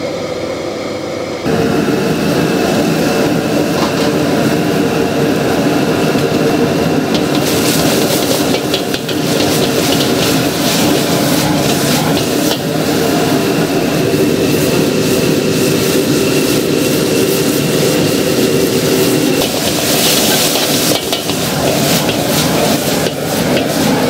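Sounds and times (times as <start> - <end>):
gas burner roaring: 0.0 - 24.0
stir-fry sizzling in wok: 2.6 - 24.0.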